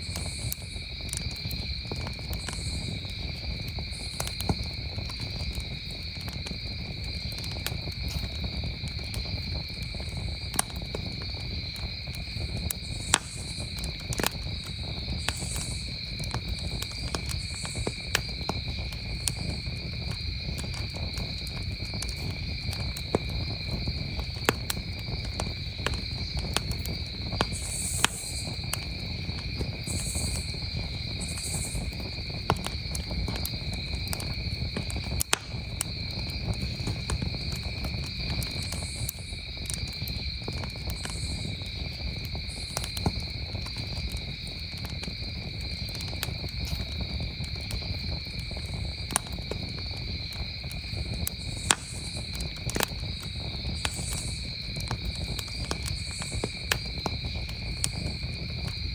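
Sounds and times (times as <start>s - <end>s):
campfire crackling and popping: 0.0s - 58.9s
crickets chirring: 0.0s - 58.9s.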